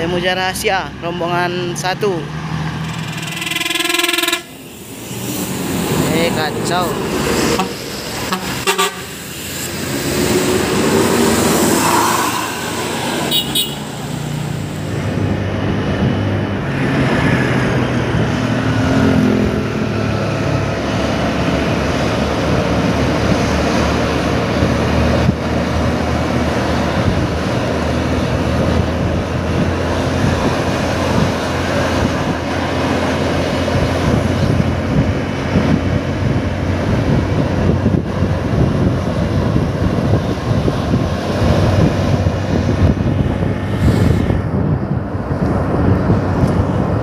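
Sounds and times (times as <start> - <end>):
engine drone and road noise: 0.0 - 47.0
bus passing close by: 0.9 - 47.0.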